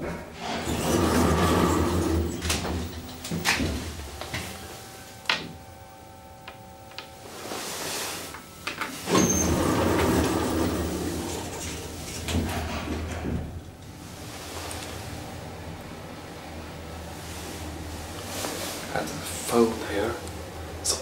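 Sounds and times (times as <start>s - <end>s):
elevator doors sliding with rumble: 0.0s - 5.8s, 7.8s - 21.0s.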